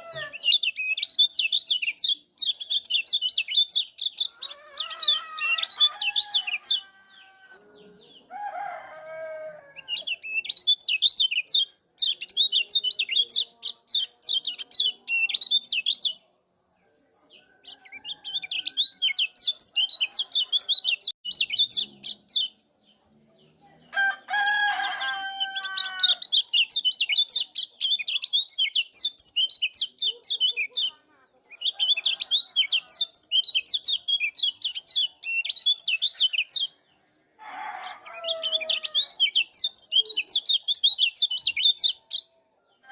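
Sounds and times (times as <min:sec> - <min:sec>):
bird high chattering song: 0:00.0 - 0:08.2, 0:09.8 - 0:16.3, 0:17.3 - 0:22.7, 0:25.1 - 0:36.9, 0:37.9 - 0:42.4.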